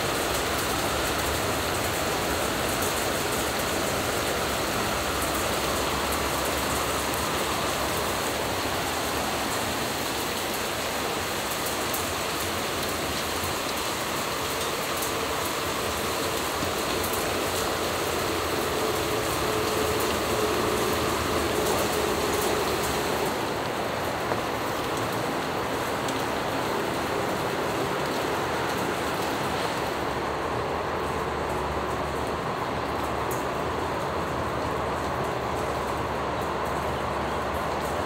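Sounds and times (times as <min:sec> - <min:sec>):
steady rain hiss: 0:00.0 - 0:38.0
ticks of raindrops: 0:00.0 - 0:38.0.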